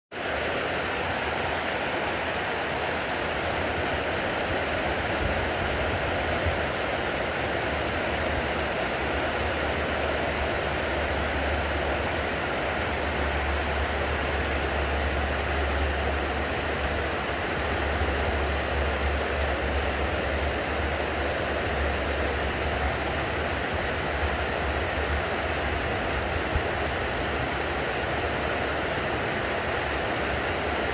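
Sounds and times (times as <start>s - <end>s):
heavy rain pouring: 0.1s - 30.9s.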